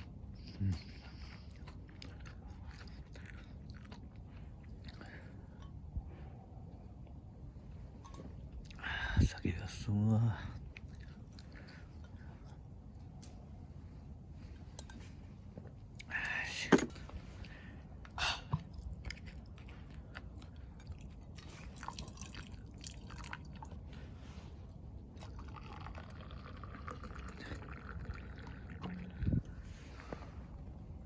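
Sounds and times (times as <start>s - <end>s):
eating and drinking noises: 0.0s - 31.0s
low steady hum: 0.0s - 31.0s.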